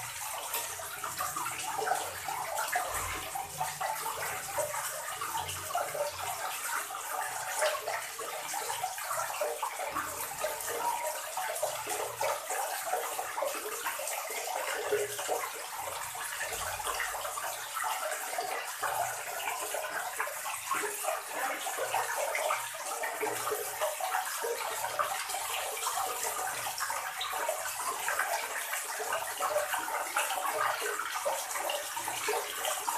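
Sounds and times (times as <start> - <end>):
water pouring into plastic tub: 0.0 - 32.9.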